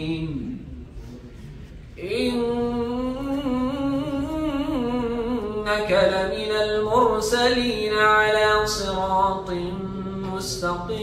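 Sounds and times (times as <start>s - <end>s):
man chanting into a microphone: 0.0s - 0.8s, 2.0s - 11.0s.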